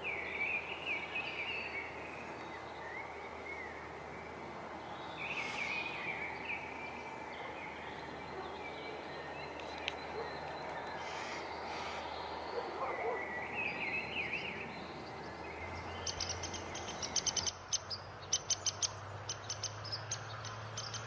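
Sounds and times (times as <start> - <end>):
outdoor ambience hiss: 0.0 - 21.0
wild birds chirping: 0.0 - 21.0.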